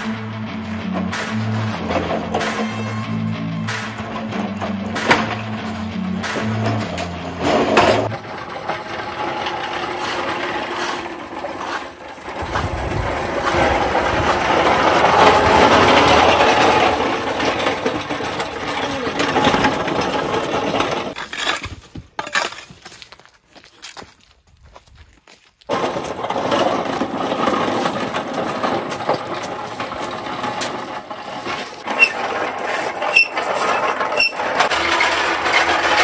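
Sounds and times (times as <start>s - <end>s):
engine hoist casters rattling: 0.0s - 21.6s, 25.7s - 36.0s.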